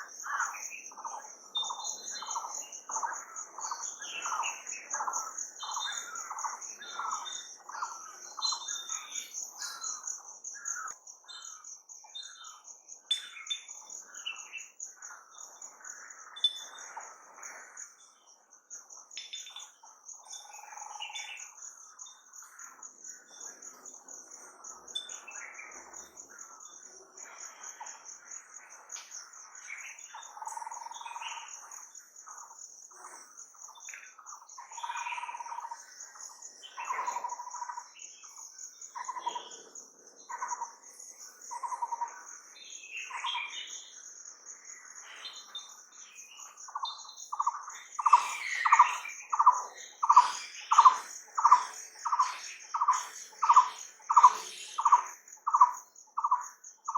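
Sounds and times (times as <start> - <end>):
pulsing insect trill: 0.0 - 56.9
wild birds calling: 0.0 - 56.9.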